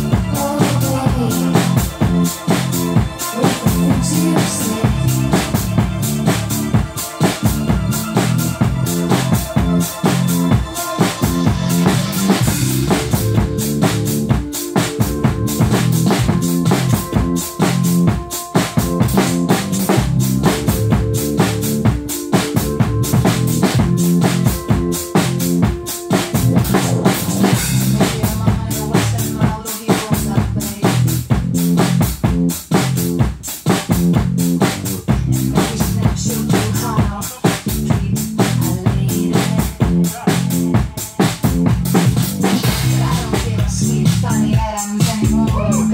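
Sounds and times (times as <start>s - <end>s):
acoustic drum kit playing: 0.0s - 45.9s
recorded song backing: 0.0s - 45.9s.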